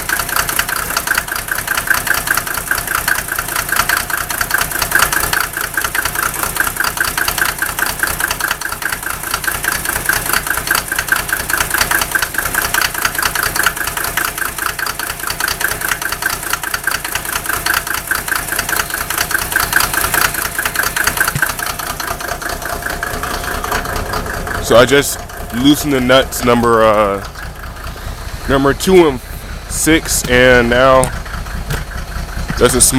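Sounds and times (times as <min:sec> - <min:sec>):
diesel engine idling with knock: 0:00.0 - 0:32.9.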